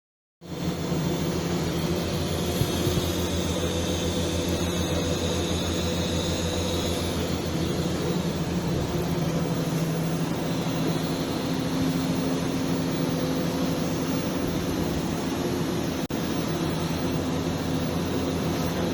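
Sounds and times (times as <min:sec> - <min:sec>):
welding arc buzzing hum: 0:00.6 - 0:15.8.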